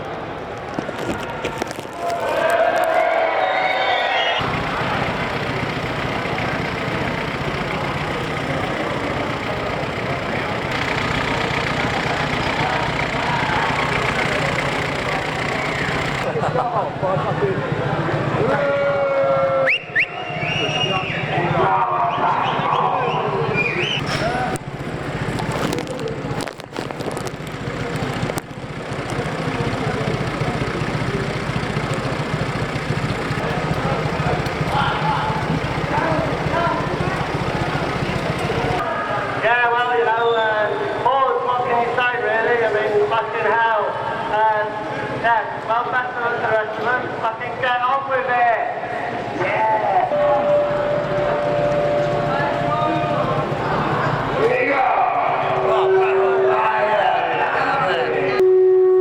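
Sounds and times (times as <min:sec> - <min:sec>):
car engine running roughly: 0:04.4 - 0:55.8.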